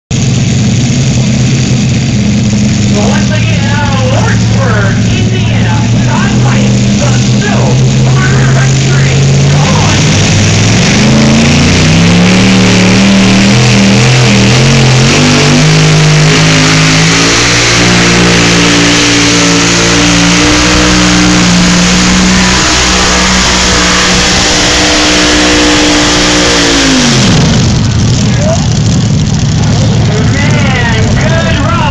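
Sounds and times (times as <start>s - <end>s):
tractor engine at full throttle: 0.0s - 31.9s.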